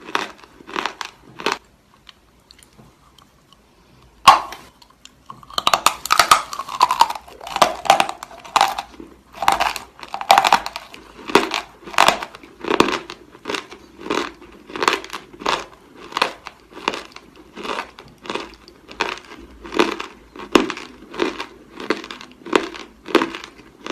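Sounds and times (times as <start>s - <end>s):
dry crunchy chewing: 0.0s - 23.9s.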